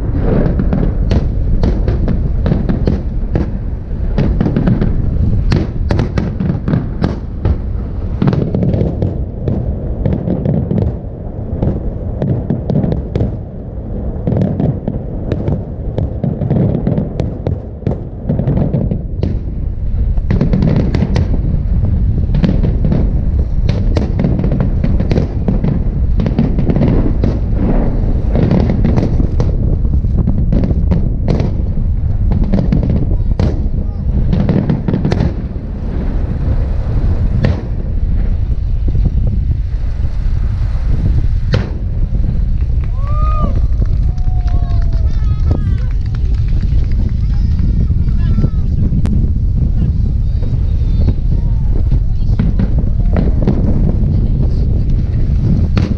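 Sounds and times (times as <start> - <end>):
fireworks crackling and popping: 0.0 - 55.9
low rumble: 0.0 - 55.9.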